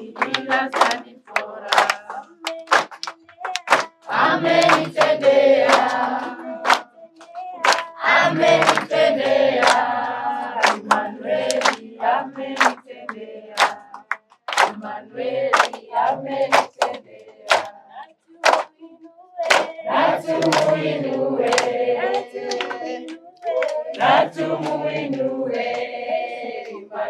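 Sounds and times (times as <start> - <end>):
hand-clapping on the beat: 0.0 - 18.8, 19.4 - 27.0
group singing a worship song: 0.0 - 27.0.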